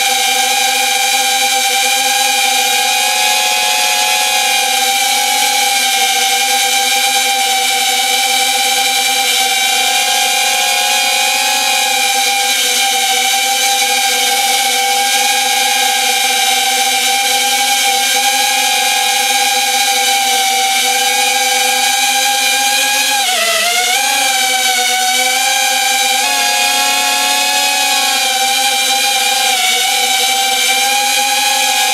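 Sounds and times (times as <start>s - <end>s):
drone motors whining: 0.0s - 31.9s.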